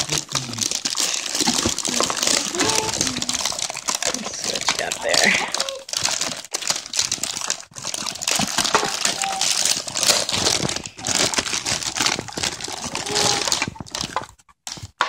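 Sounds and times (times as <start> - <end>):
plastic bags crinkling and rustling: 0.0 - 15.0
scissors cutting plastic bag: 0.0 - 15.0.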